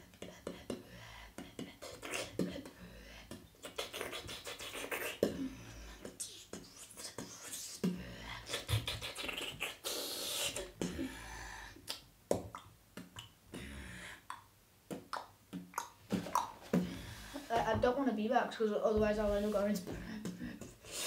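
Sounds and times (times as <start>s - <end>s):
boy beatboxing: 0.0s - 18.1s, 18.9s - 21.0s.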